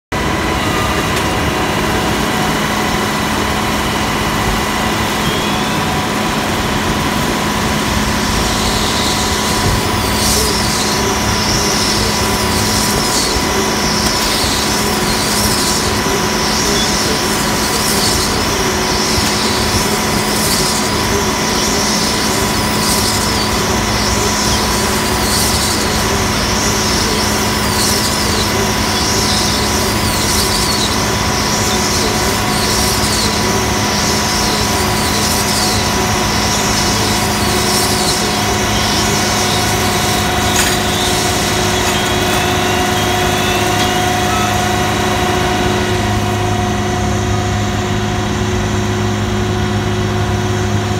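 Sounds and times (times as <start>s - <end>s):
machinery drone and whine: 0.0s - 50.9s.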